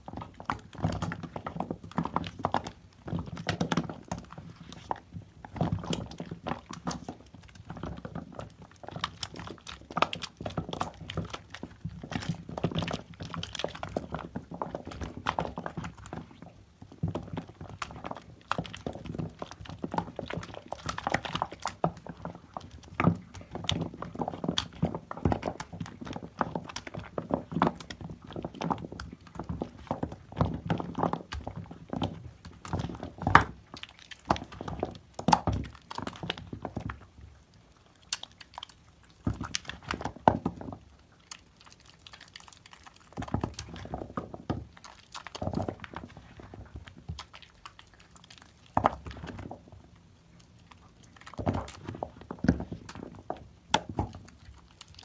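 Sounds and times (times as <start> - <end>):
hands squeezing wet soap: 0.0 - 55.0.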